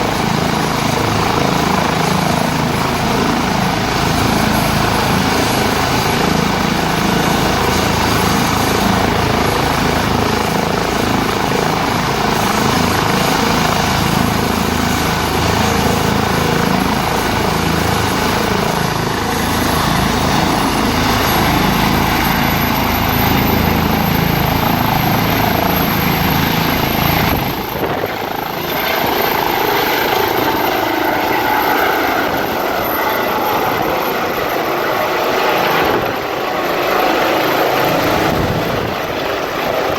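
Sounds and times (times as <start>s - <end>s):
helicopter rotor: 0.0s - 39.9s
helicopter turbine whine: 0.0s - 39.9s.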